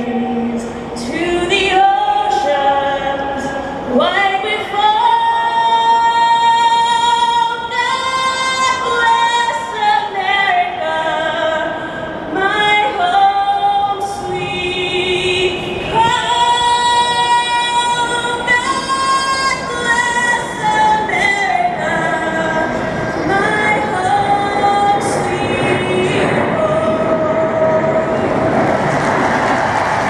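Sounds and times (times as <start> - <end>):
woman singing over loudspeakers: 0.0 - 30.0.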